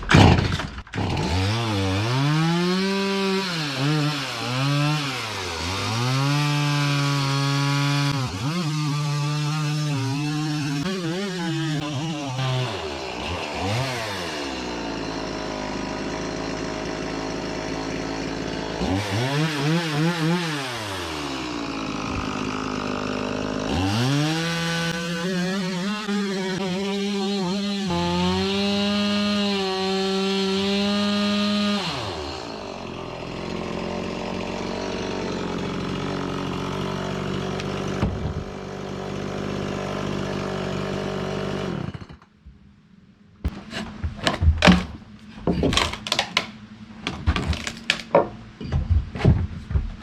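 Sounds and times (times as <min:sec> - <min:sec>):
chainsaw revving: 0:00.4 - 0:42.2.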